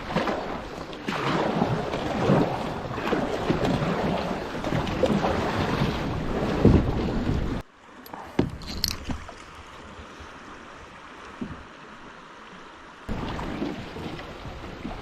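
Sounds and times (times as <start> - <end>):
water splashes: 0.0 - 15.0.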